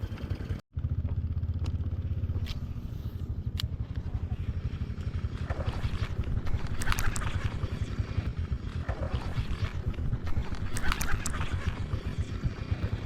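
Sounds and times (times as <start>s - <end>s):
small boat engine pulsing: 0.0s - 13.0s.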